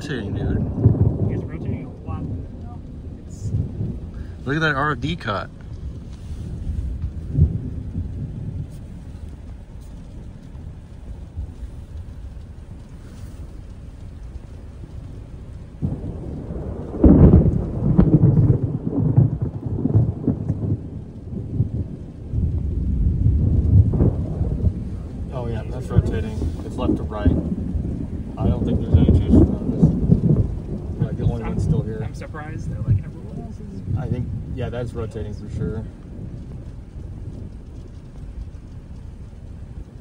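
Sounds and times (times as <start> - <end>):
thunder rumbling: 0.0 - 40.0.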